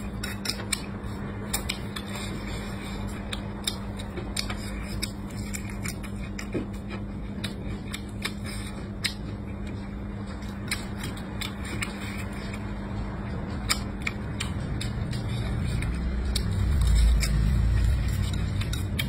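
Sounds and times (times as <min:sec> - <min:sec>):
close chewing with crunches: 0:00.0 - 0:19.0
steady low hum: 0:00.0 - 0:19.0.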